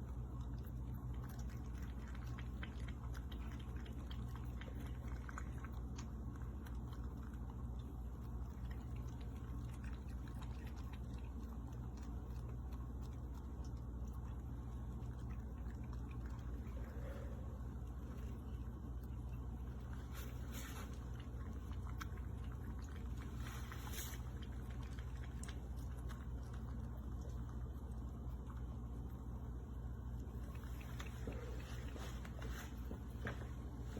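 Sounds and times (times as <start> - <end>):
soft irregular ticks: 0.0 - 33.5.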